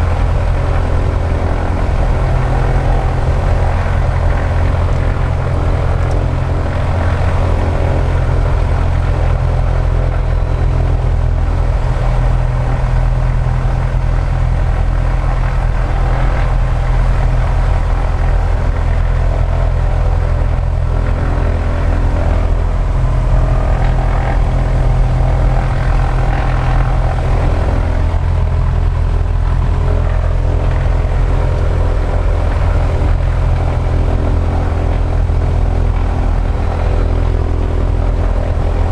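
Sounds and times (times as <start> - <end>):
model airplane engine running: 0.0 - 38.9.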